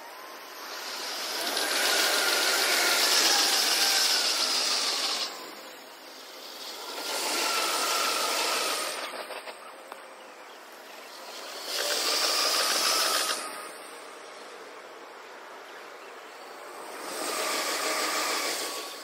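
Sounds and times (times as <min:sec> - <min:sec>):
sped-up trains passing: 0:00.0 - 0:09.7, 0:10.6 - 0:19.0
falling whine: 0:00.0 - 0:19.0.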